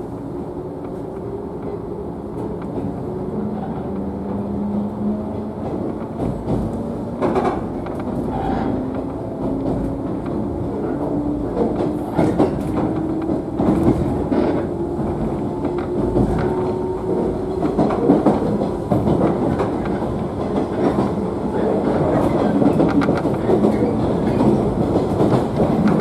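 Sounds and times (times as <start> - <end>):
electric train rumbling: 0.0 - 26.0.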